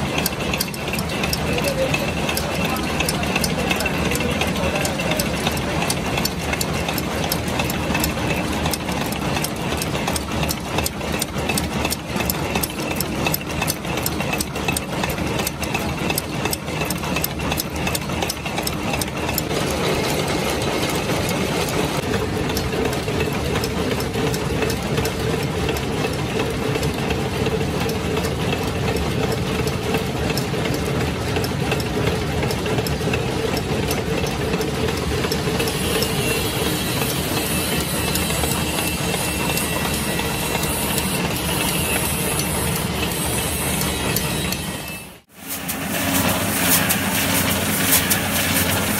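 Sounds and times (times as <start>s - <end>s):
thread-rolling machine clicking: 0.0s - 45.0s
steady machine drone: 0.0s - 48.9s.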